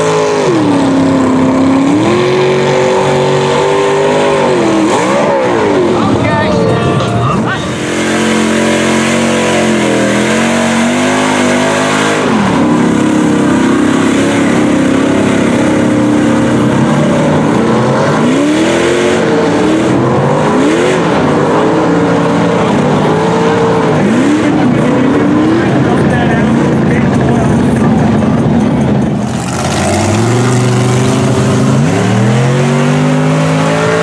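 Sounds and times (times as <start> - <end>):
tires churning through mud: 0.0 - 34.0
truck engine revving: 0.0 - 34.0.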